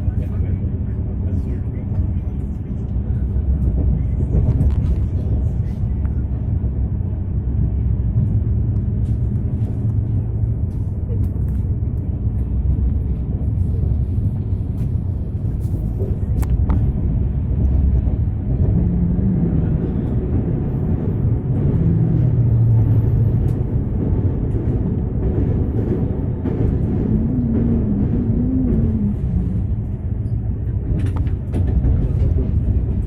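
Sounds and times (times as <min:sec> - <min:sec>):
train rumble from on board: 0:00.0 - 0:33.0.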